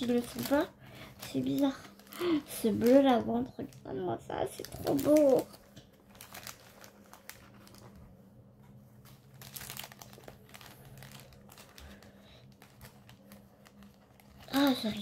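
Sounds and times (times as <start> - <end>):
thread skeins crinkling and rustling: 0.0 - 15.0.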